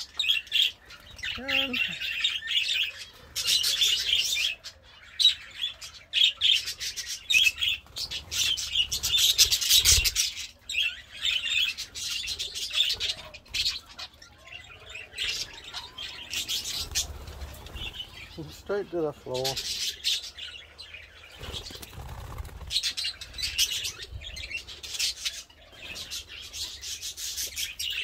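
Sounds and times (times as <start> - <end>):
birds chirping and chattering: 0.0 - 28.0.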